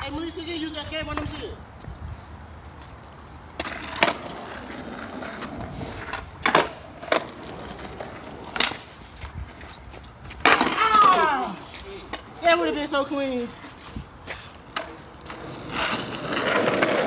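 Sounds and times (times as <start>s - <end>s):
skateboard wheels rolling on concrete: 0.0s - 17.0s
skateboard clacking on ground: 2.8s - 17.0s.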